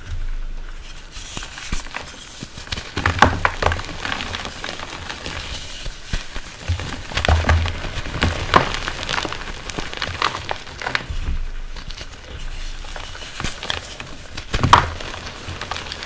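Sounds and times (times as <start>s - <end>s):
steady rain-like hiss: 0.0s - 16.0s
chalk crunching and crumbling: 0.8s - 16.0s.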